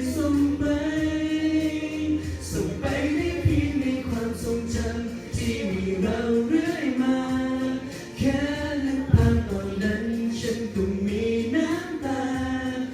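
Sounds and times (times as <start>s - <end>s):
soft musical accompaniment: 0.0s - 12.9s.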